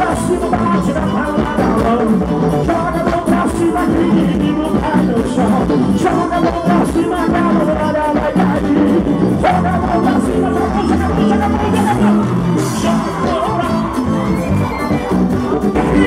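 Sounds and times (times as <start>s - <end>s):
live band playing upbeat song: 0.0s - 16.0s
person singing: 0.0s - 16.0s
steady drum beat: 0.0s - 16.0s.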